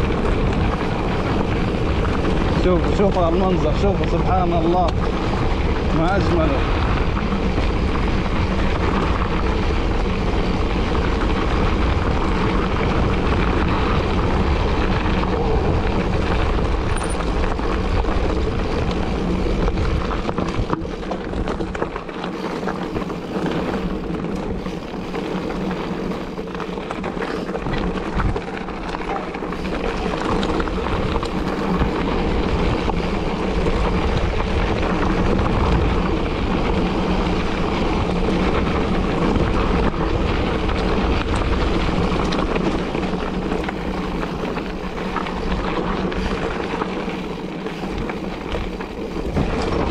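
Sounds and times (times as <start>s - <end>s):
wind rushing over microphone: 0.0s - 49.9s
tyre hum: 5.0s - 49.9s.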